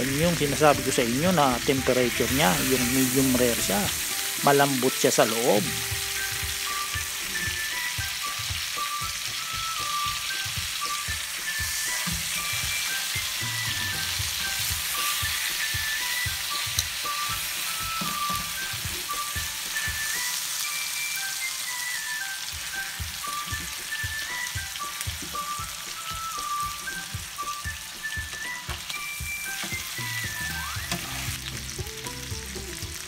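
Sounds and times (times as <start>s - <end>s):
background music melody: 0.0s - 33.0s
steaks sizzling in a frying pan: 0.0s - 33.0s.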